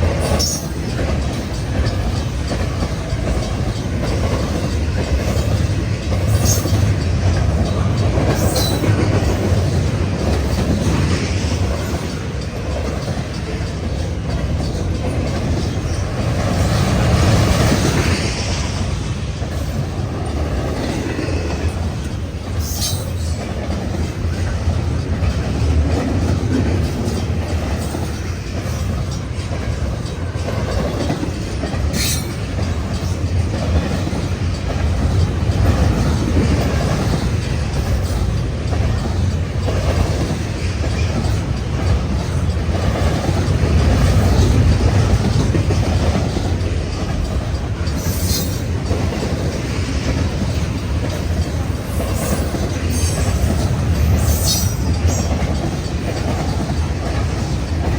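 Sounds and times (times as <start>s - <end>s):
freight train rumbling past: 0.0s - 57.9s
wheels clacking over rails: 0.0s - 57.9s.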